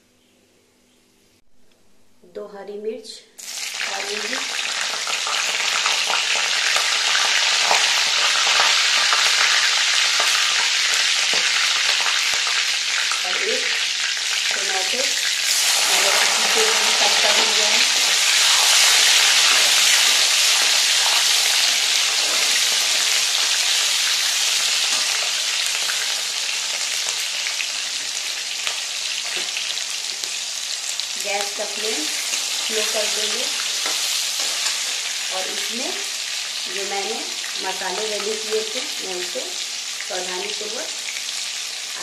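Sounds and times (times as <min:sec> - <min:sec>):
hot oil sizzling: 0:03.4 - 0:42.0.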